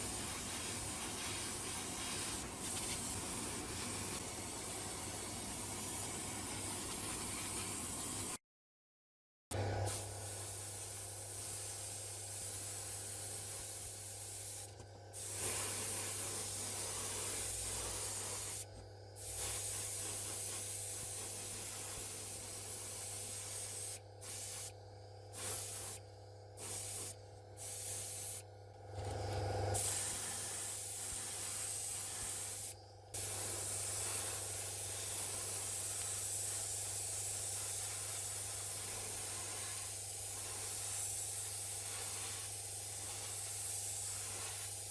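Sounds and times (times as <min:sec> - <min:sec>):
compressed air spraying: 0:00.0 - 0:08.4, 0:09.9 - 0:28.4, 0:29.0 - 0:44.9.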